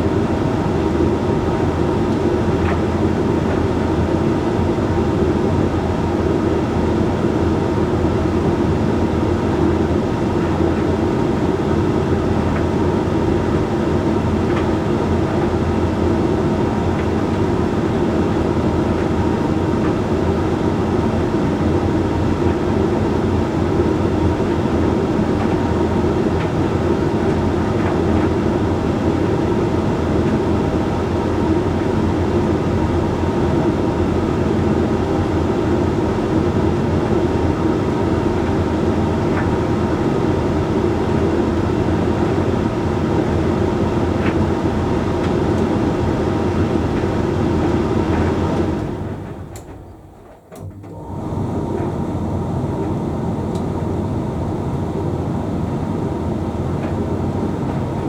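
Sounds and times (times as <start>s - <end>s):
tumble dryer humming: 0.0s - 58.0s.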